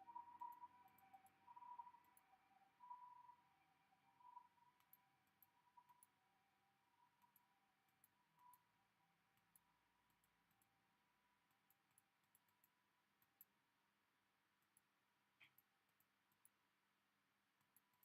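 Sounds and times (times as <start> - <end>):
faint high-pitched clicks: 0.0 - 18.0
faint steady hum: 0.0 - 18.0.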